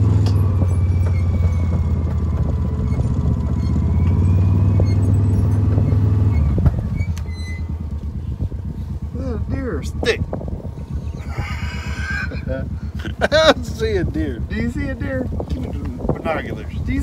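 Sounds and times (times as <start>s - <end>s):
utv engine rumbling: 0.0s - 17.0s.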